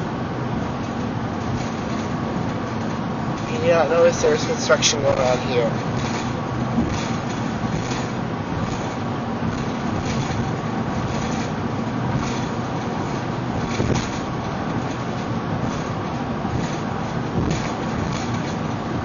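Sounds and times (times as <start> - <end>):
car driving at highway speed: 0.0 - 19.0.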